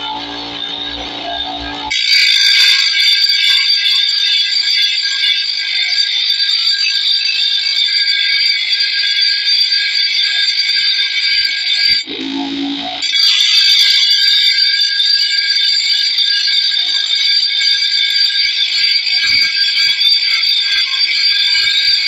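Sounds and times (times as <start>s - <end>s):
grinding wheel screeching on steel: 0.0s - 22.0s.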